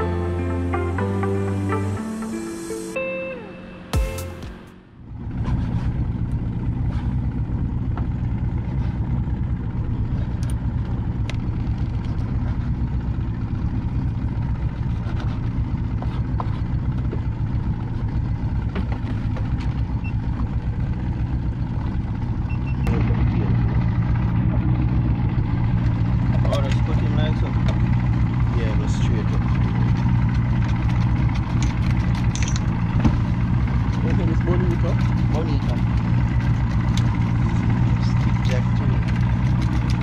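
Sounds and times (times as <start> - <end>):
boat engine idling: 5.0 - 40.0.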